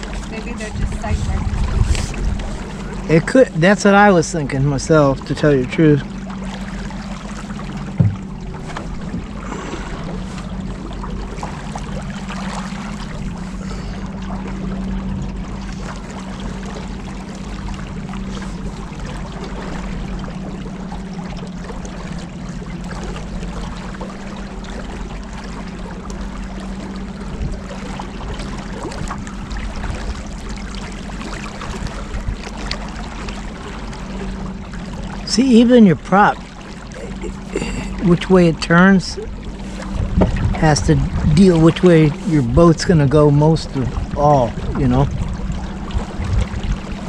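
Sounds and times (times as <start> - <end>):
motorboat engine humming: 0.0 - 47.0
water rushing along hull: 0.0 - 47.0.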